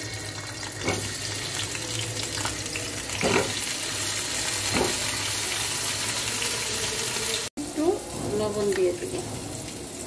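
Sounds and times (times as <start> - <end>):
potatoes frying in hot oil: 0.0 - 10.0.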